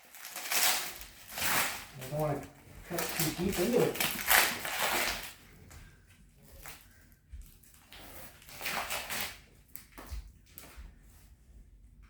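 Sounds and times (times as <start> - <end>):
knife cutting plastic wrapping: 0.0 - 5.7, 6.4 - 10.8.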